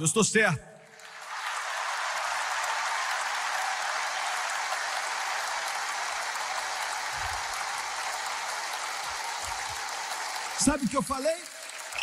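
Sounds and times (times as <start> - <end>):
congregation applauding: 0.9 - 12.0.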